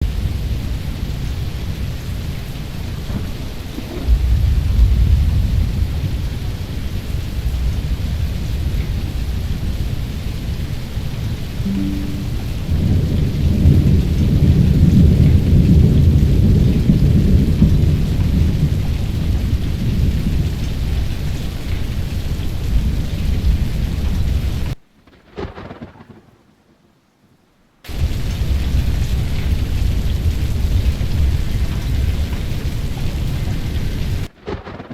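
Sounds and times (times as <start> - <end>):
low rumble of thunder: 0.0 - 11.2, 12.0 - 24.8, 27.9 - 34.9
steady rain: 0.0 - 34.9.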